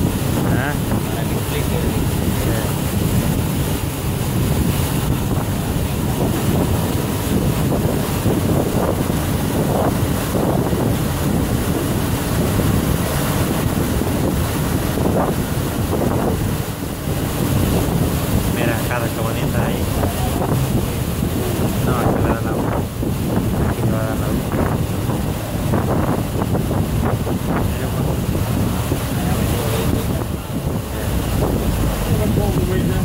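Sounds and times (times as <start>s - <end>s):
boat running over water: 0.0s - 33.0s
wind rumble on microphone: 0.0s - 33.0s.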